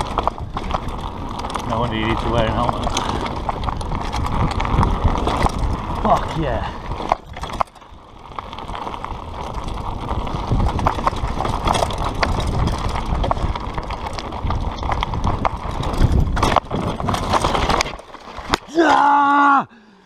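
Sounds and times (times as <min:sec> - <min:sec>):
wind rumbling on microphone: 0:00.0 - 0:18.6
tyres crunching over stones: 0:00.0 - 0:19.1
bike rattling and clattering: 0:00.0 - 0:19.2.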